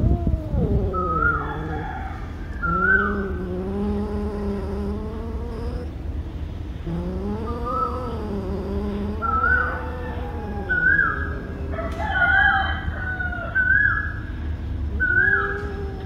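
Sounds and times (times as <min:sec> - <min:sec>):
cat growling: 0:00.0 - 0:06.0, 0:06.8 - 0:12.9, 0:14.9 - 0:16.0.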